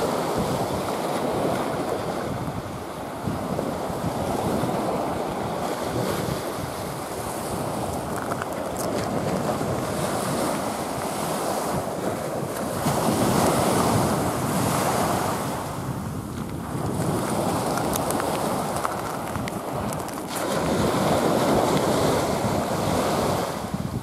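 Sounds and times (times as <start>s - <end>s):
sea waves washing up beach: 0.0s - 24.0s
wind on microphone: 0.0s - 24.0s.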